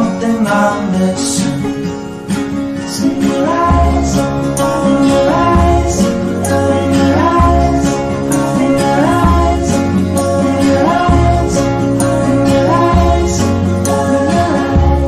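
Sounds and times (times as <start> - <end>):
indie rock guitar and bass: 0.0 - 15.0.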